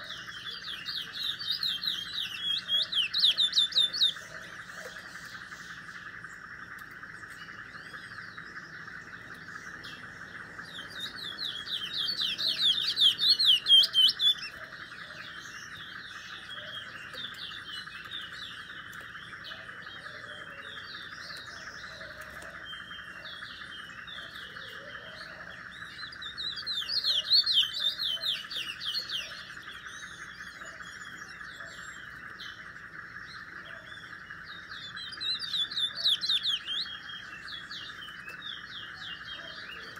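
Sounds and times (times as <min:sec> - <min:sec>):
songbird warbling and chirping: 0:00.0 - 0:39.9.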